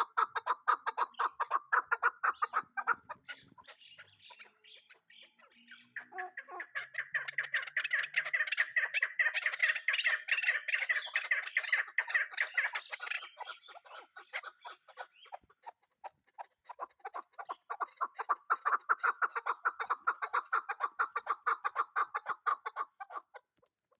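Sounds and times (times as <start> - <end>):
partridge clucking calls: 0.0 - 23.6.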